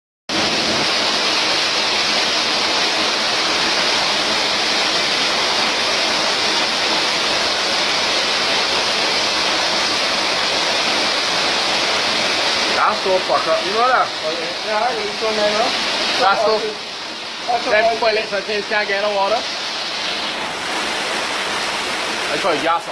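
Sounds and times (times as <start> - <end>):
loud rush of flood water: 0.3 - 22.9.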